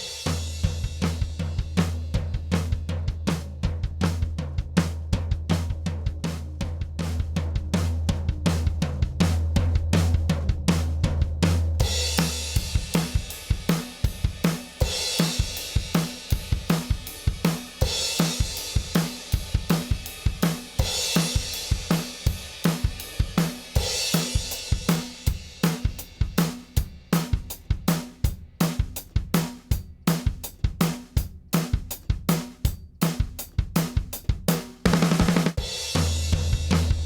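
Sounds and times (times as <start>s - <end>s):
drum kit groove: 0.0s - 37.0s.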